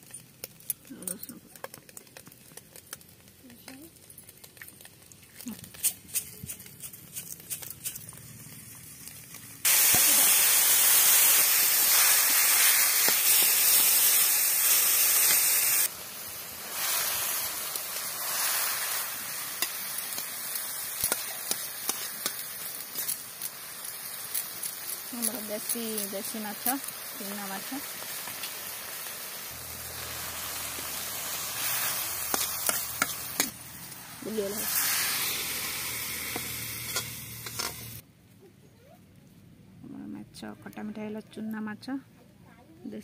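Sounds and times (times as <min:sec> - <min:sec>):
fish sizzling in hot oil: 0:00.0 - 0:06.0, 0:06.6 - 0:38.0
oil crackling: 0:00.0 - 0:38.0.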